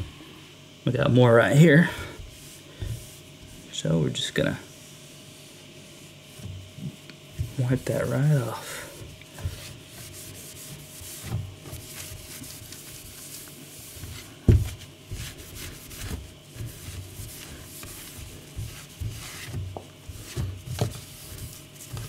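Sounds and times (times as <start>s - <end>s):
cloth rubbing on cabinet door: 1.4s - 22.0s.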